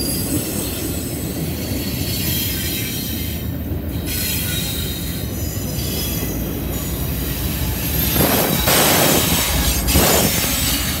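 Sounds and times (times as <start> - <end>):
diesel locomotive passing: 0.0 - 11.0
high wheel squeal: 0.0 - 11.0
rumble of wheels on rail: 0.0 - 11.0.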